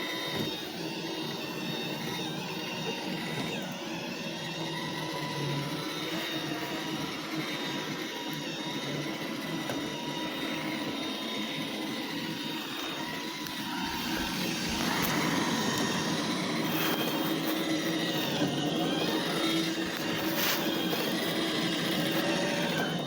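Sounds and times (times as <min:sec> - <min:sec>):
robot vacuum motor whirring: 0:00.0 - 0:23.0.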